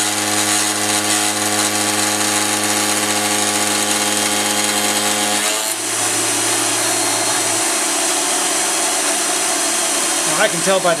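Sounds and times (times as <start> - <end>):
milling cutter cutting aluminium: 0.0 - 10.5.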